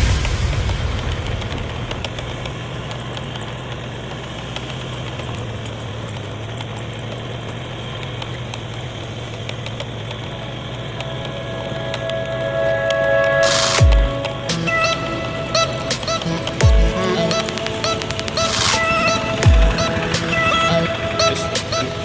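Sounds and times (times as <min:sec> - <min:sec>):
diesel engine driving water pump: 0:00.0 - 0:22.0.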